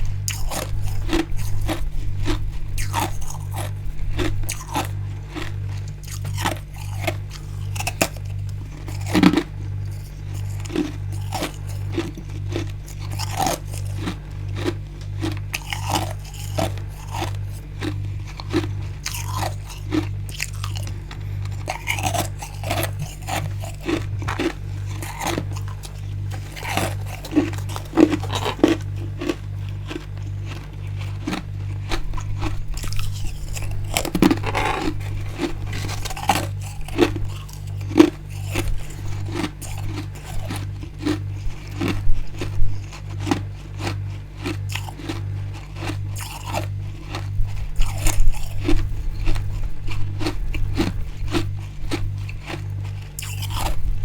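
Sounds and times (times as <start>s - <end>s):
crunching and chewing ice: 0.0s - 54.0s
faint pulsing low hum: 0.0s - 54.0s.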